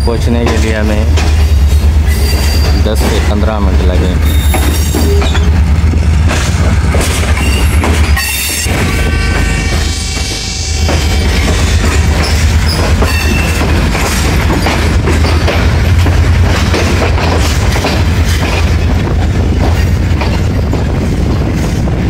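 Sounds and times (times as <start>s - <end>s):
wheels clicking over rail joints: 0.0s - 21.8s
train wheels rumbling: 0.0s - 22.0s.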